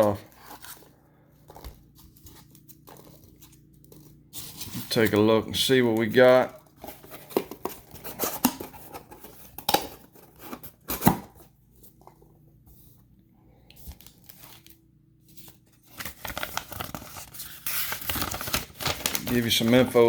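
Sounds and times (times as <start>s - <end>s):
paper and plastic tearing rustling: 0.0s - 11.4s, 13.8s - 20.0s.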